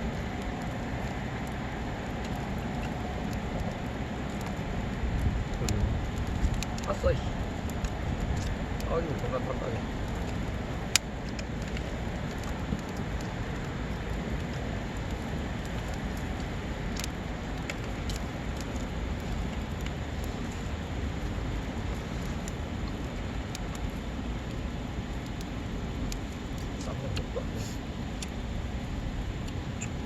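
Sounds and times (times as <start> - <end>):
campfire popping and crackling: 0.0 - 30.0.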